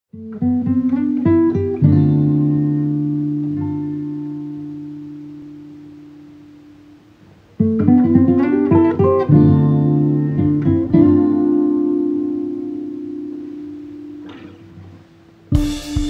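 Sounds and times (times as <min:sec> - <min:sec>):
guitar music: 0:00.1 - 0:16.0.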